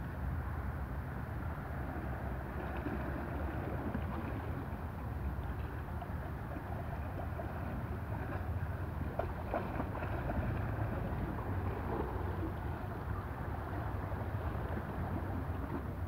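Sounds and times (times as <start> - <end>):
wind rumbling on microphone: 0.0 - 16.0
waves lapping against rocks: 1.3 - 16.0
small splashes: 2.3 - 16.0.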